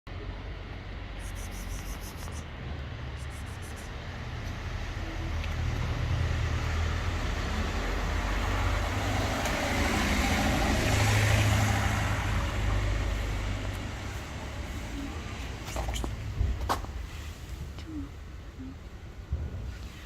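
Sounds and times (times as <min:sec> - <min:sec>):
road traffic rumble: 0:00.1 - 0:20.0
vehicle passing: 0:00.6 - 0:16.6.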